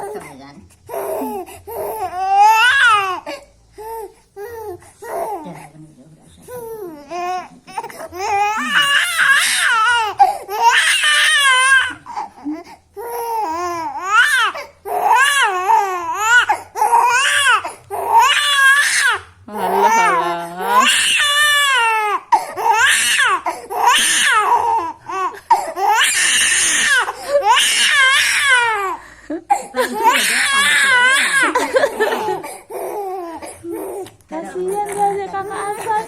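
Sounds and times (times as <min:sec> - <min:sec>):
baby crying: 0:00.0 - 0:05.6, 0:06.5 - 0:36.0.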